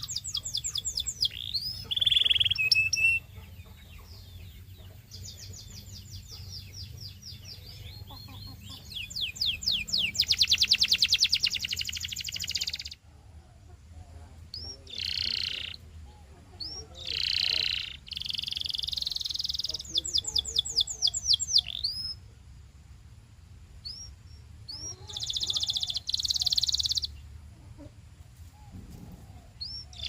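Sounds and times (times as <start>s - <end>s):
canary singing: 0.0s - 22.3s, 23.8s - 27.3s, 28.7s - 30.0s.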